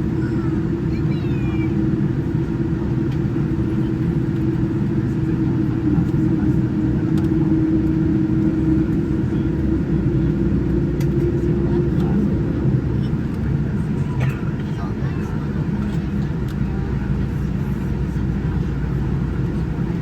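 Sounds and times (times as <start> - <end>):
airliner cabin low rumble: 0.0 - 20.0.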